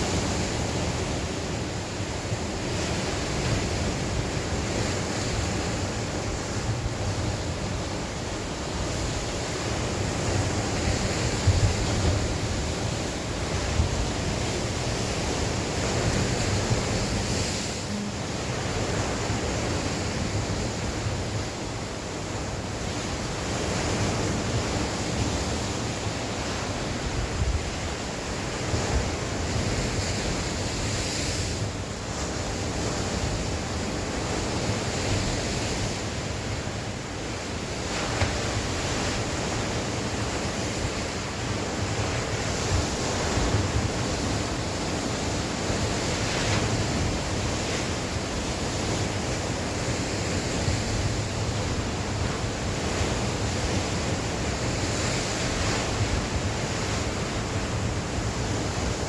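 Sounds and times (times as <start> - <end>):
waves breaking on shore: 0.0 - 59.0
wind gusting over microphone: 0.0 - 59.0.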